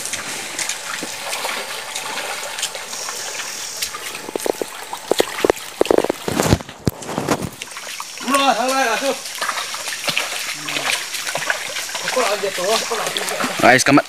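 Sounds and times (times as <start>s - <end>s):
stream trickling over stones: 0.0s - 14.0s
water splashes: 0.0s - 14.0s.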